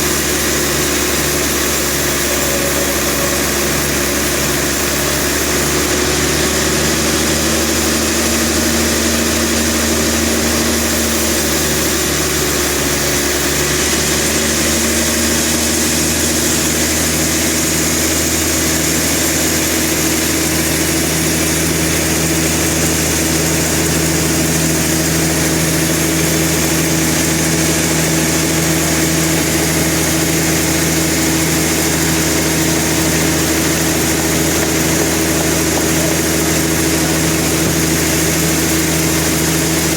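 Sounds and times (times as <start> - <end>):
sawmill machinery engine running: 0.0 - 39.9.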